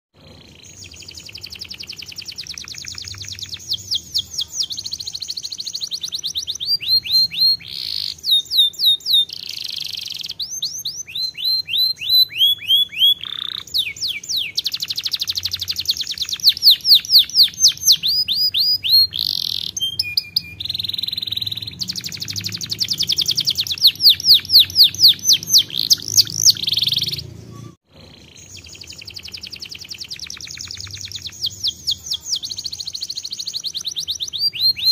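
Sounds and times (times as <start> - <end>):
canary singing: 0.1 - 34.9.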